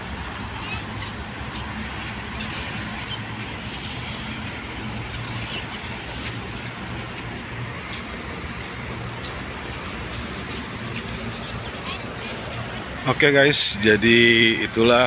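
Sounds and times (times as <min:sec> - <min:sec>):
traffic noise: 0:00.0 - 0:15.0
vehicle engines idling: 0:00.0 - 0:15.0.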